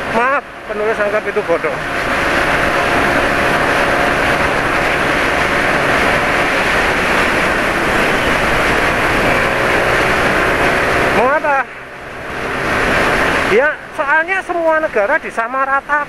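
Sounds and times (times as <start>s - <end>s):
wind rush over microphone: 0.0s - 15.2s
road noise: 0.0s - 16.0s
scooter engine drone: 0.0s - 16.0s.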